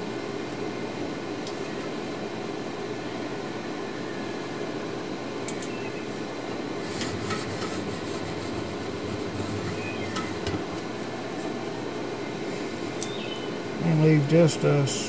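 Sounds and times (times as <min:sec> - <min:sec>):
fan-like background hum: 0:00.0 - 0:15.0.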